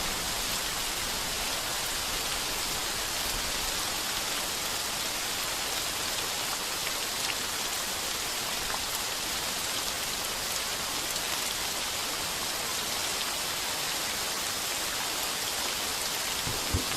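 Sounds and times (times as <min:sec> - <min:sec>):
heavy rain on a tin roof: 0:00.0 - 0:16.9.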